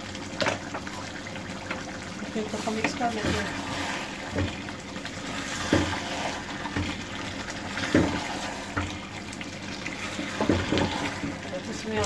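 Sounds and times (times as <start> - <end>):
wet bubbling: 1.2 - 12.0
spoon stirring wet food: 2.3 - 12.0.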